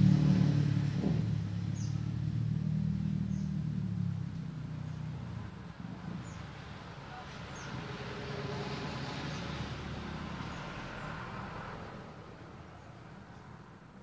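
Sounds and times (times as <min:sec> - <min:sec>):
vehicle engine running: 0:00.0 - 0:13.5.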